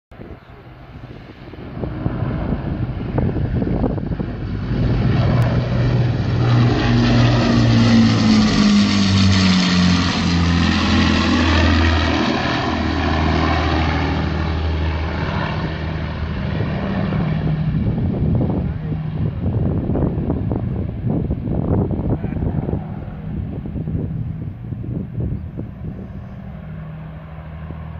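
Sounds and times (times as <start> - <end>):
propeller plane flying overhead: 0.1 - 27.9.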